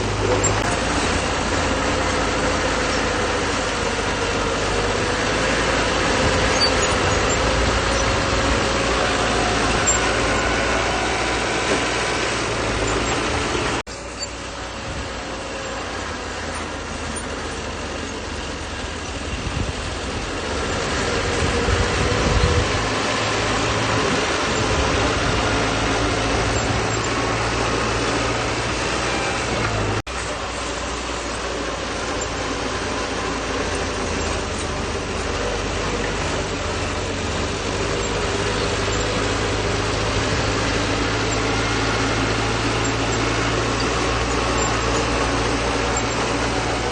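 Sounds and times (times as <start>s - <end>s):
bulldozer diesel engine working: 0.0s - 46.9s.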